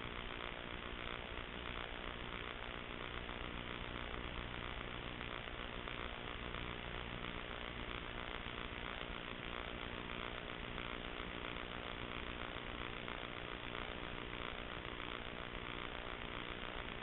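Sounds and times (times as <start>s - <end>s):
steady hum with hiss: 0.0s - 17.0s.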